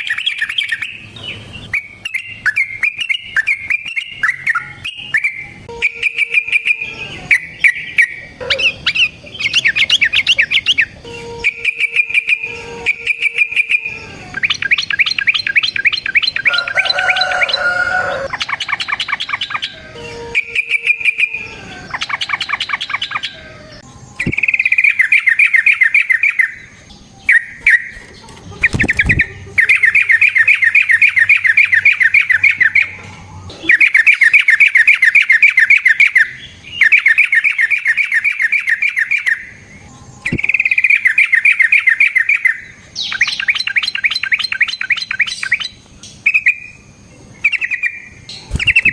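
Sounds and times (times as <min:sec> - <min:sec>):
bird singing chattering trills: 0:00.0 - 0:48.9.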